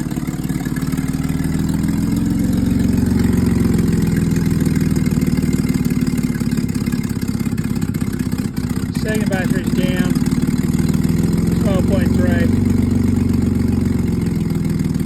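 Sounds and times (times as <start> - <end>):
engine idling with pulsing exhaust: 0.0 - 15.0.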